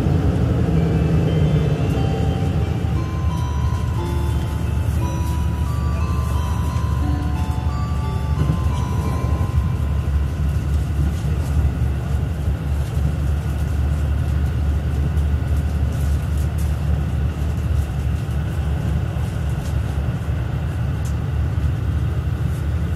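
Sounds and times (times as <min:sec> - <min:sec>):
diesel railcar engine drone: 0:00.0 - 0:22.9.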